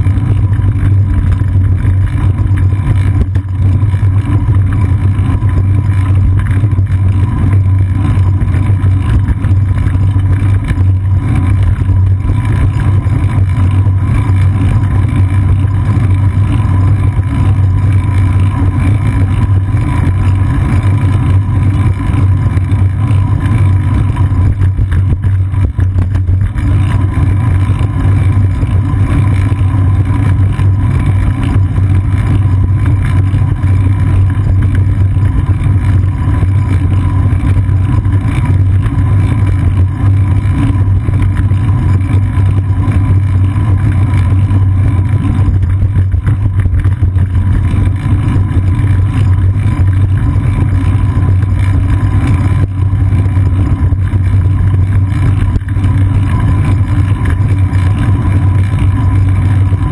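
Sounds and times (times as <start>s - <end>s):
wind and riding vibration rumble: 0.0s - 59.9s.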